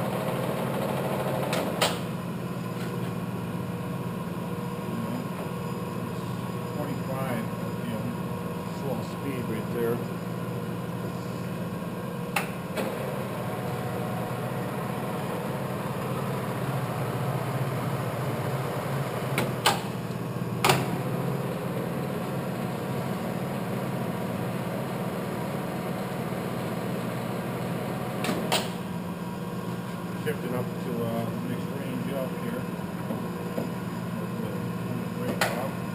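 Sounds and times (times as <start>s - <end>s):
lathe gear-drive hum: 3.9s - 35.9s.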